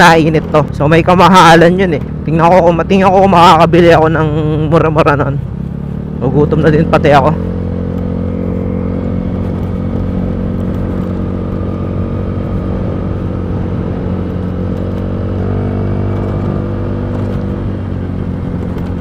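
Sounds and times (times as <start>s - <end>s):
scooter engine running: 0.0s - 19.0s.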